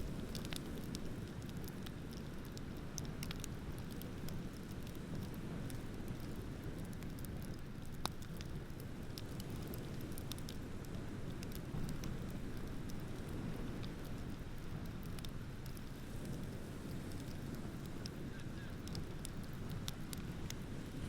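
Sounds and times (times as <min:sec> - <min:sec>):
bonfire crackling: 0:00.0 - 0:21.0.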